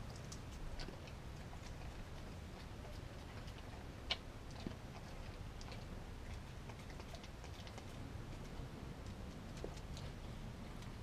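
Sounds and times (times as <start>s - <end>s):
dog licking and nibbling: 0.0s - 11.0s.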